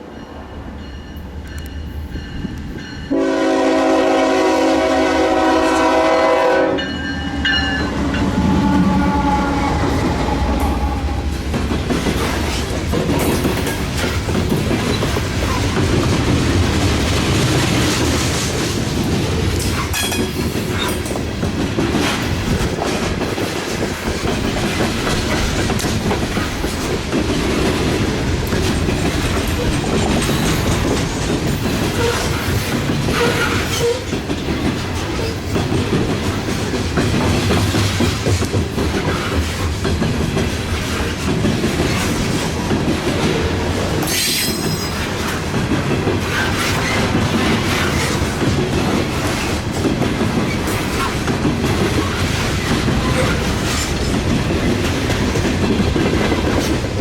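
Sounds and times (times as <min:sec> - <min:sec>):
freight train rumble: 0:00.0 - 0:57.0
train wheels clacking on rails: 0:00.0 - 0:57.0.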